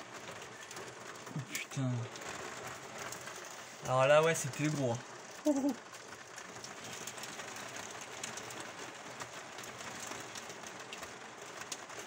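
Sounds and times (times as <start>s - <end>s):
rain hissing on window glass: 0.0s - 12.0s
raindrops ticking on glass: 0.0s - 12.0s.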